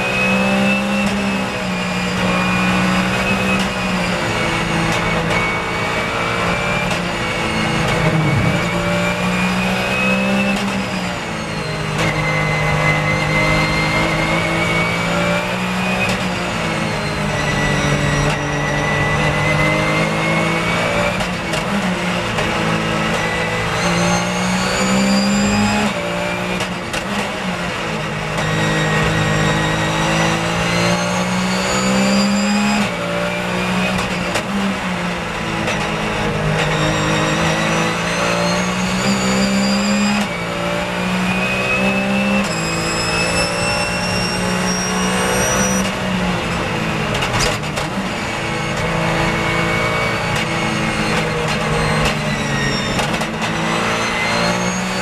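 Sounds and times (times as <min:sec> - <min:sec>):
race car engine revving through gears: 0:00.0 - 0:55.0.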